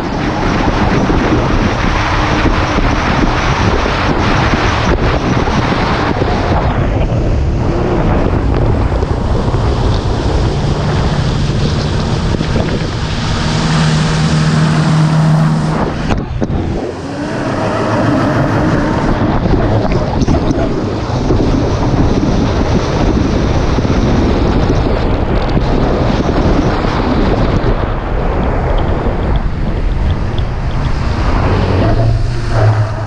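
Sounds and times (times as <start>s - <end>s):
jet ski engine running: 0.0s - 33.0s
water noise: 0.0s - 33.0s
wind rushing over microphone: 0.0s - 33.0s.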